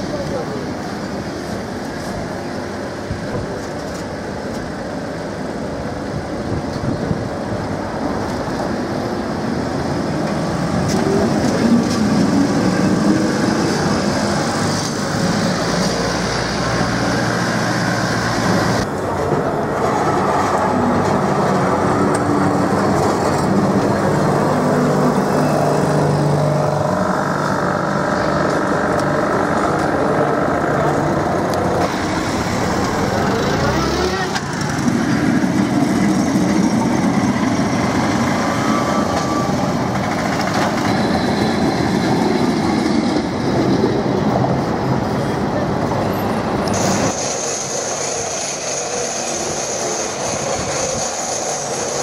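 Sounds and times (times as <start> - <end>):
tram rumbling on rails: 0.0 - 52.0
wheels screeching on rail: 0.0 - 52.0.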